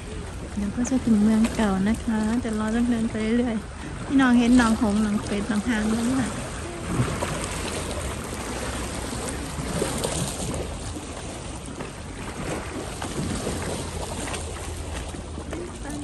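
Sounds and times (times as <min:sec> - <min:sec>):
small waves lapping on rocks: 0:00.0 - 0:16.0
wind rumble on microphone: 0:00.0 - 0:16.0.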